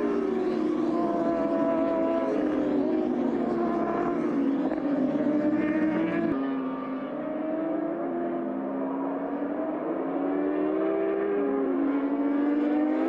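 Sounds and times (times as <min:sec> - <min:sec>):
motorcycle engines at high revs: 0:00.0 - 0:13.0.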